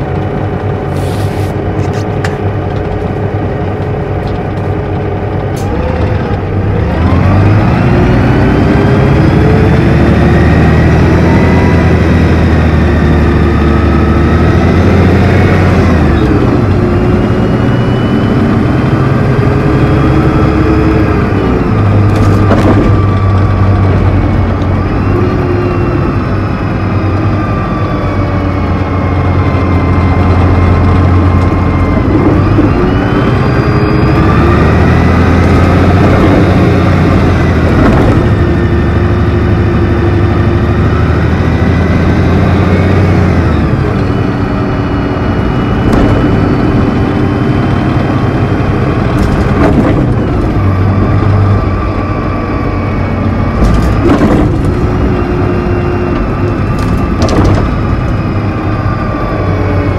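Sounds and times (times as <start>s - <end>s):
diesel bus engine under load: 0.0s - 59.9s
gearbox whine: 0.0s - 59.9s.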